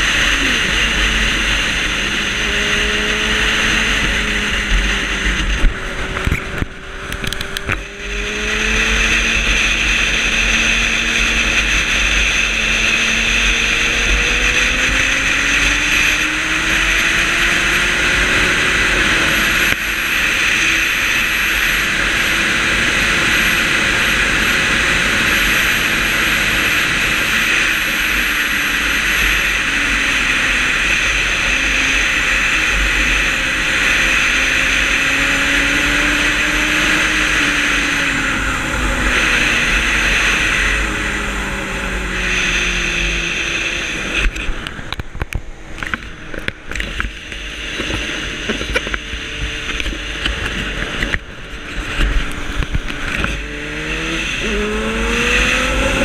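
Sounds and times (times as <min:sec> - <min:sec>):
motorcycle engine: 0:00.0 - 0:56.0
wind rushing over microphone: 0:00.0 - 0:56.0.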